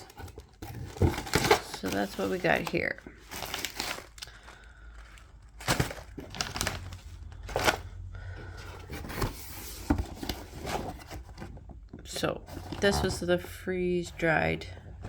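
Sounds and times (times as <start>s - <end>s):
candy packaging rustling: 0.0s - 15.0s.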